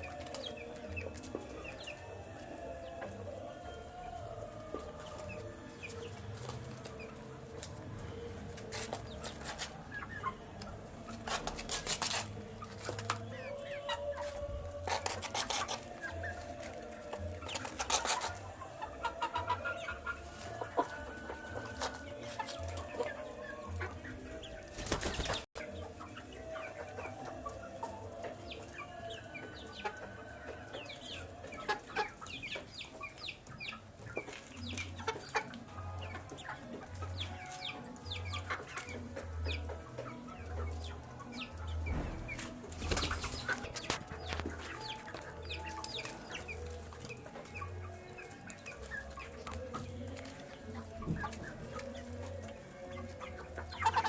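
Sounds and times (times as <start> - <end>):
young chickens peeping and clucking: 0.0 - 54.0.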